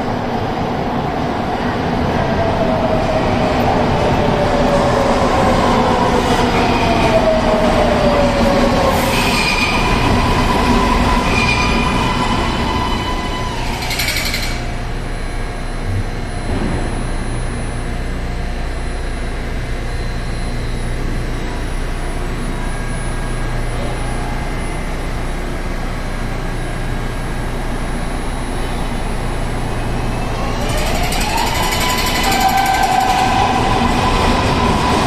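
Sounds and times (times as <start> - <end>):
subway train hum: 0.0 - 35.0.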